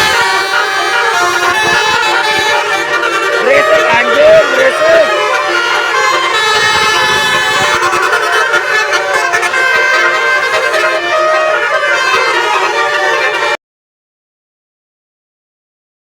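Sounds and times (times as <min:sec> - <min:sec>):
multi-tone bus horn tune: 0:00.0 - 0:13.6.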